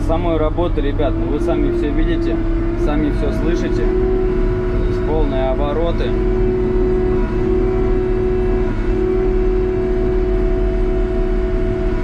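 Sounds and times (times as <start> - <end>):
diesel engine droning at full revs: 0.0 - 12.0
engine whine: 0.0 - 12.0.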